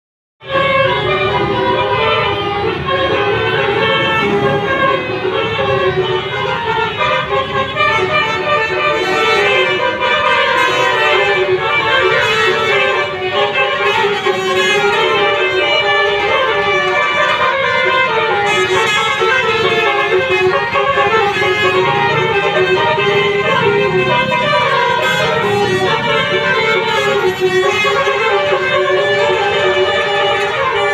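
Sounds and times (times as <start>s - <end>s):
musical bus horn: 0.4s - 30.9s.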